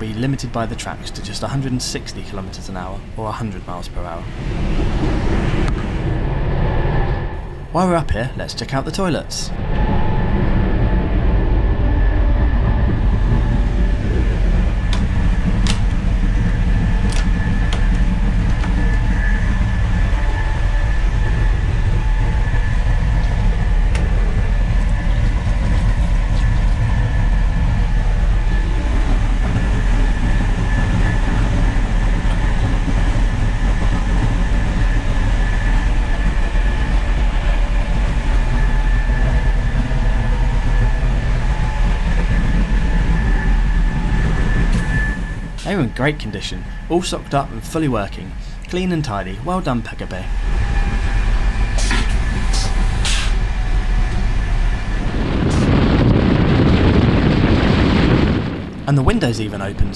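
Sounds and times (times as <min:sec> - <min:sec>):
high whine: 0:00.0 - 0:59.9
train rumbling at speed: 0:00.0 - 0:59.9.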